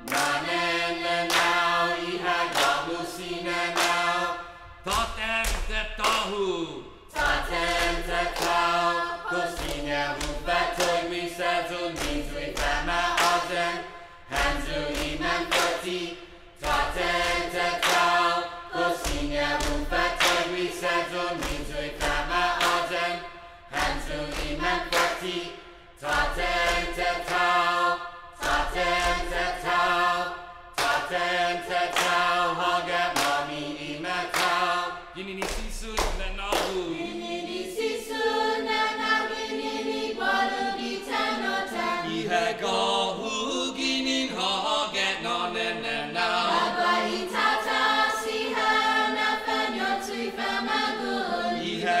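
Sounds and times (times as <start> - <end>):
group of voices singing: 0.0 - 52.0.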